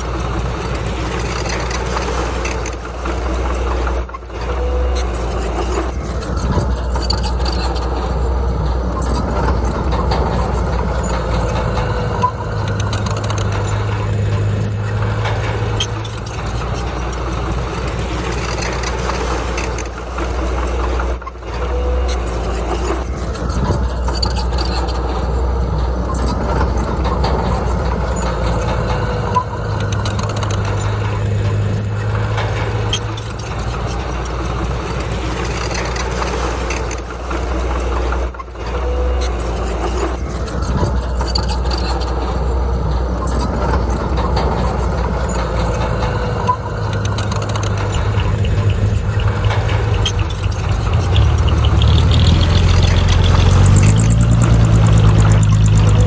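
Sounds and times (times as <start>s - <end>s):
diesel machinery running: 0.0s - 56.0s
metallic clanks: 0.0s - 56.0s.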